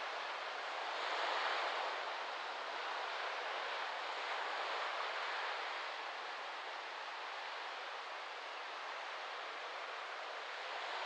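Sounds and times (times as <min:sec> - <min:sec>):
waves washing up a beach: 0:00.0 - 0:11.0.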